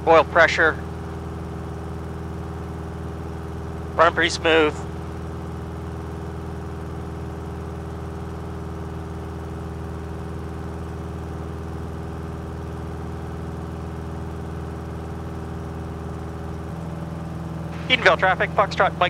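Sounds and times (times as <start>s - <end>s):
airplane engine in cockpit: 0.0s - 19.0s.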